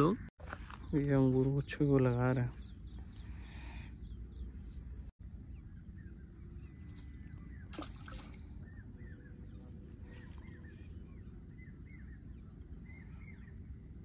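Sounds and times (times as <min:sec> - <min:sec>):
low wind rumble on microphone: 0:00.0 - 0:14.0
small birds chirping: 0:00.0 - 0:14.0.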